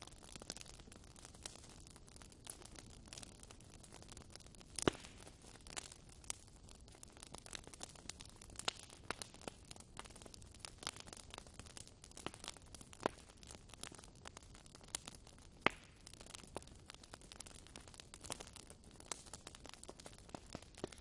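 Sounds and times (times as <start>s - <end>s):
fire popping and snapping: 0.0s - 21.0s.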